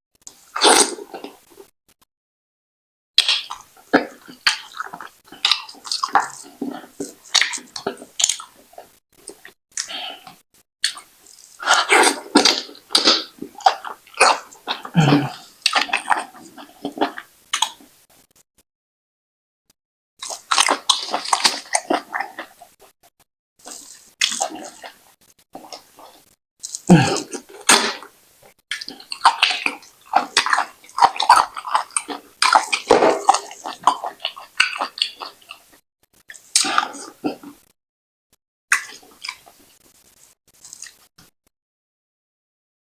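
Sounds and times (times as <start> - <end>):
wet slurping and chewing: 0.2 - 1.7, 3.2 - 18.3, 20.2 - 37.7, 38.7 - 41.1.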